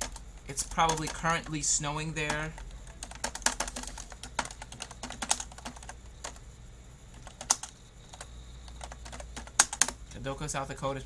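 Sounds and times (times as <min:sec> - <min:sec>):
keyboard typing clicks: 0:00.0 - 0:01.6, 0:02.2 - 0:06.4, 0:07.1 - 0:10.2.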